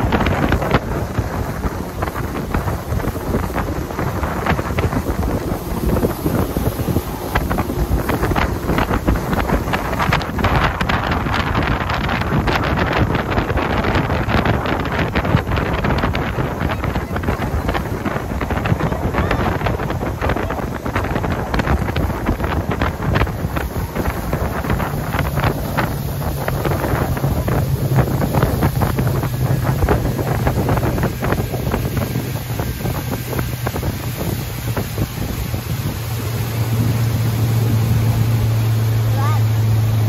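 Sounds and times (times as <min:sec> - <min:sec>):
boat hull slapping on water: 0:00.0 - 0:40.0
outboard motor humming: 0:00.0 - 0:40.0
wind buffeting microphone: 0:00.0 - 0:40.0.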